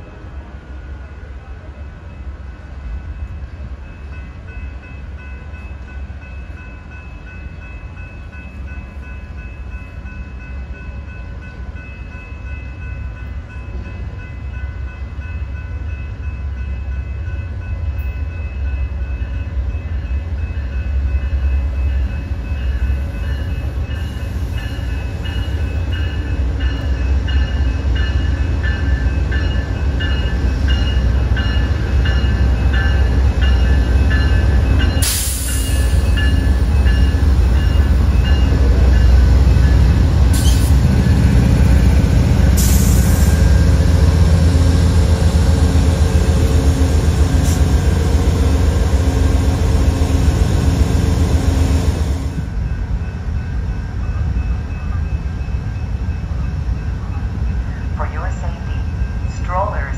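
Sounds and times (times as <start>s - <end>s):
passenger train rumbling: 0.0s - 59.9s.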